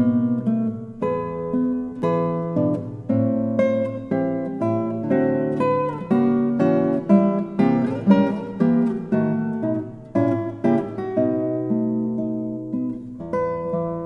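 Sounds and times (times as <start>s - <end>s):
acoustic guitar picking: 0.0s - 14.0s.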